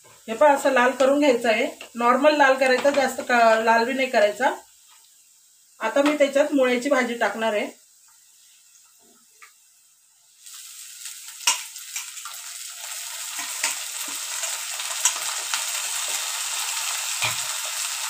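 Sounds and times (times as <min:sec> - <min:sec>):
leaves sizzling in hot oil: 0:00.0 - 0:18.0.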